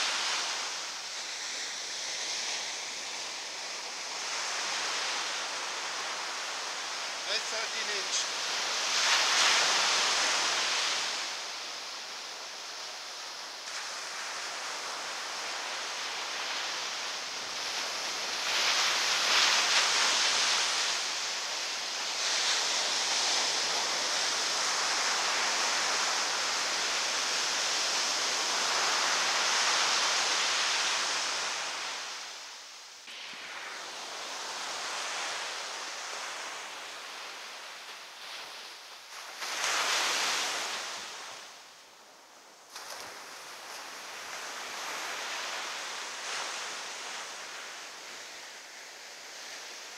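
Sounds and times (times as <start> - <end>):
ocean surf breaking on beach: 0.0 - 49.9.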